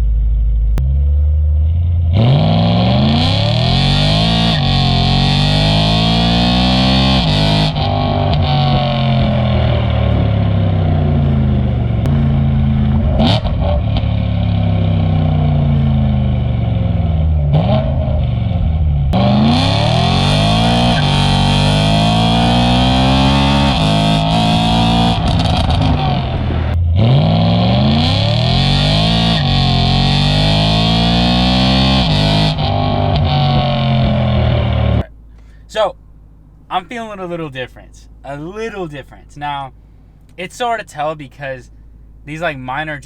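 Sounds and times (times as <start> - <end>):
car engine accelerating hard: 0.0 - 35.2.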